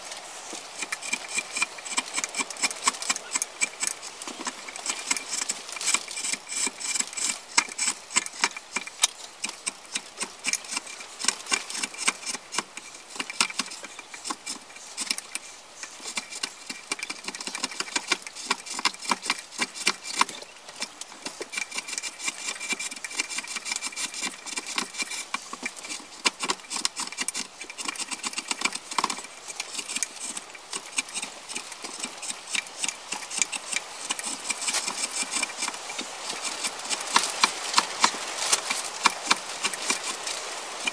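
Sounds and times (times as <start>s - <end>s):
steel tool scraping wood: 0.0s - 40.9s.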